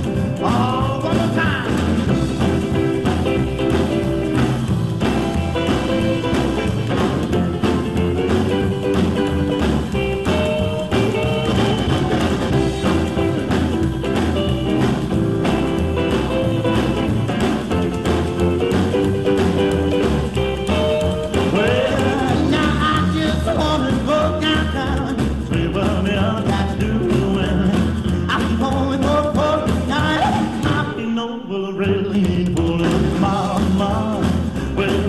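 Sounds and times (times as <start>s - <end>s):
rock and roll song: 0.0s - 35.0s.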